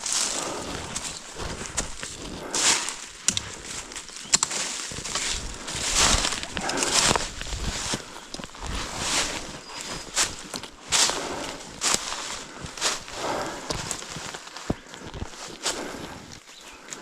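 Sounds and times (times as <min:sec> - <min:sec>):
footsteps crunching through dry leaves: 0:00.0 - 0:17.0.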